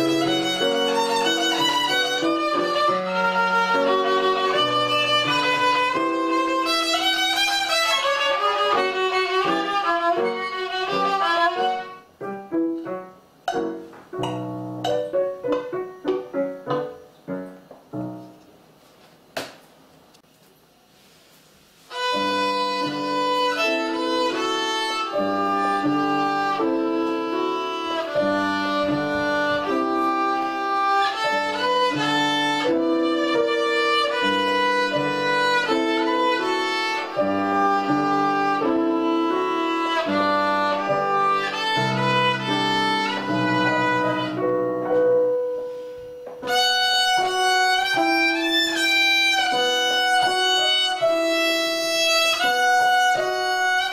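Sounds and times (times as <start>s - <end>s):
child playing violin: 0.0s - 12.1s, 21.9s - 53.9s.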